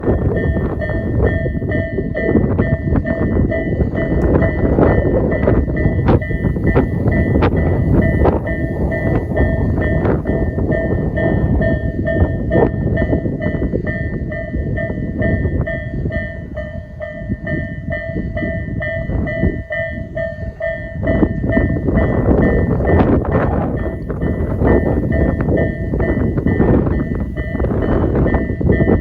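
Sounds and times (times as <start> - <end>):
level crossing warning bell: 0.0 - 29.0
train rumbling: 0.0 - 29.0.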